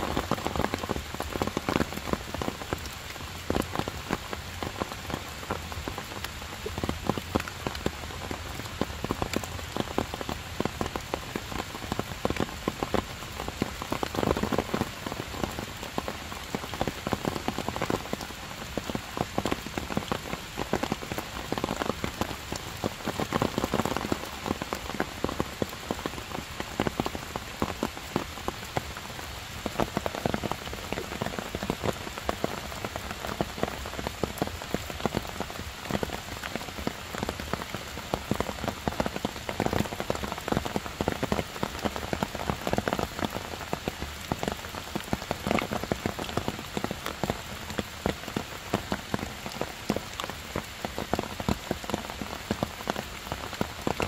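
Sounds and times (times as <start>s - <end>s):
heavy rain on stone and leaves: 0.0s - 54.0s.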